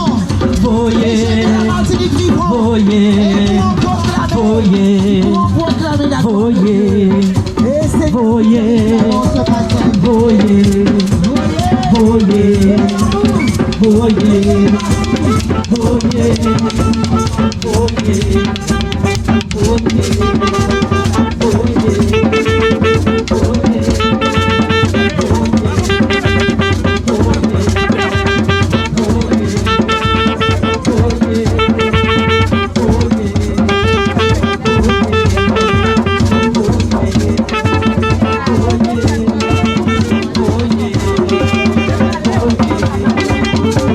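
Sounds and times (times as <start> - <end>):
drum kit beat: 0.0 - 43.9
sustained pitched parts: 0.0 - 43.9.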